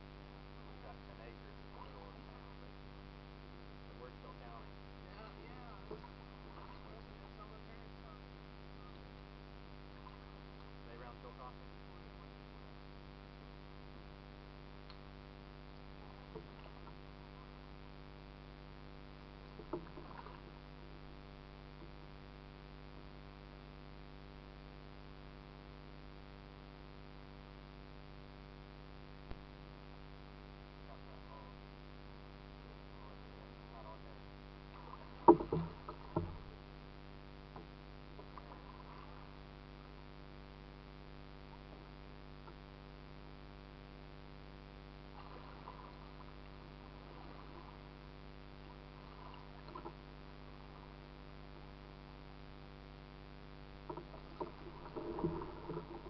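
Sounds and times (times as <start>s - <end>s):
low hum: 0.0s - 56.0s
paddle and water sounds: 0.5s - 23.4s, 29.3s - 56.0s.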